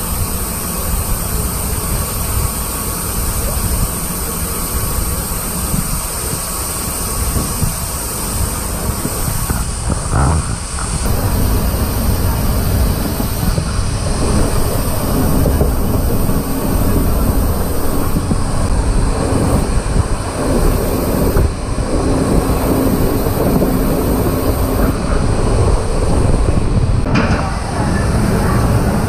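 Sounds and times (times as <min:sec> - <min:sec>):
train wheels rumbling on rails: 0:00.0 - 0:29.0
wind rushing through window: 0:00.0 - 0:29.0.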